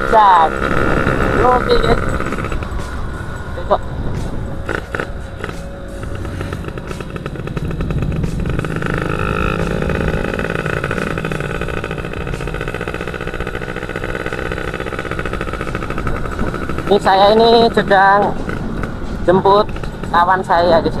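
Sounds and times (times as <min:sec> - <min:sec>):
two-stroke motorcycle engine accelerating: 0:00.0 - 0:21.0.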